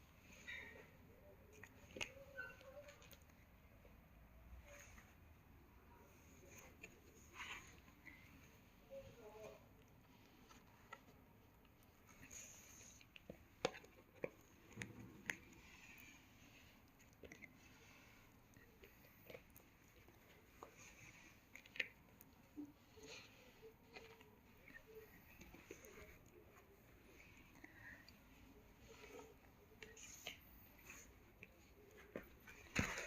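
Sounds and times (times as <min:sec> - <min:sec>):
faint soft rustles and taps: 0:06.0 - 0:33.0.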